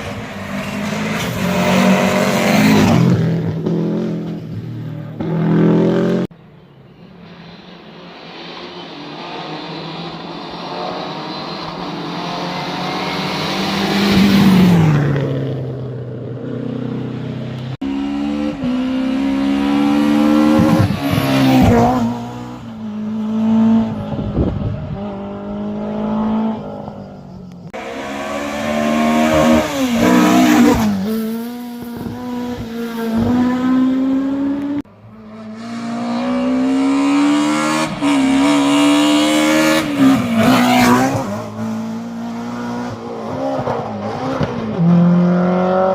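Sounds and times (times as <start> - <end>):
rally car engines revving: 0.0 - 6.3, 7.8 - 45.9.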